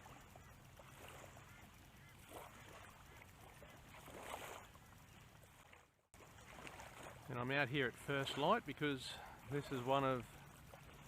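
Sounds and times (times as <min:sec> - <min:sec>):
small waves lapping on shore: 0:00.0 - 0:11.0
soft water splashes: 0:00.0 - 0:11.0.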